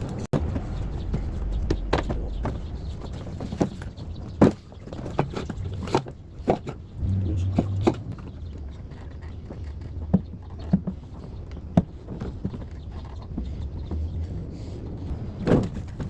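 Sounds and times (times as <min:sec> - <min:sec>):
steady low rumble: 0:00.1 - 0:10.6, 0:12.6 - 0:16.0.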